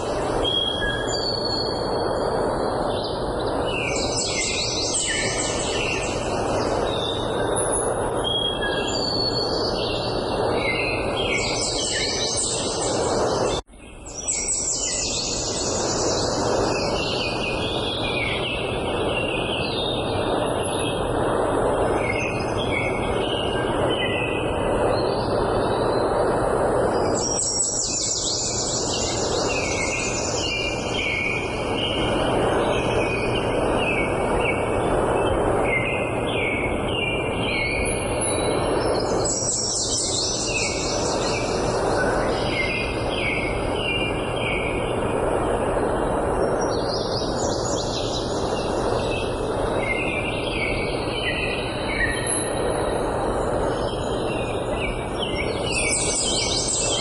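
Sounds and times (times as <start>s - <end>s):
songbirds singing: 0.0s - 57.0s
steady rushing background noise: 0.0s - 57.0s.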